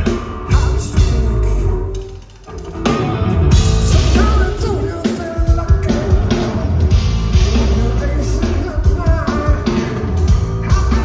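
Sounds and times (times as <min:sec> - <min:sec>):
rock band playing live: 0:00.0 - 0:11.0.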